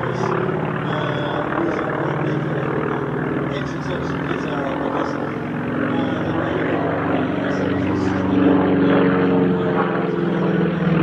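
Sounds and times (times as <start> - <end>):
aircraft piston engines droning: 0.0 - 11.0.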